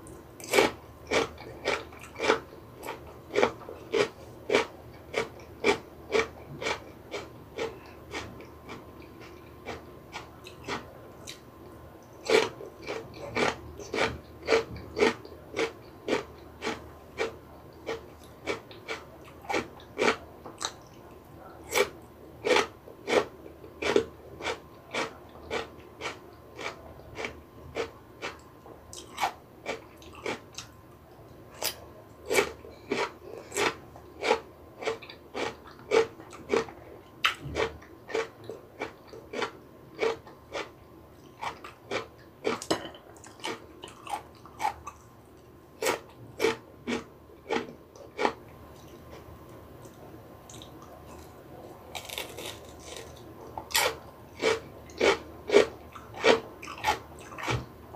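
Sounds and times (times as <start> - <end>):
crunchy chewing of cucumber: 0.0 - 30.8, 31.5 - 57.7.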